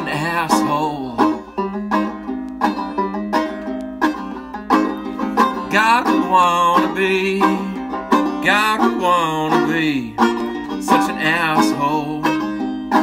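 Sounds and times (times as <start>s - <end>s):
banjo strumming chords: 0.0s - 13.0s.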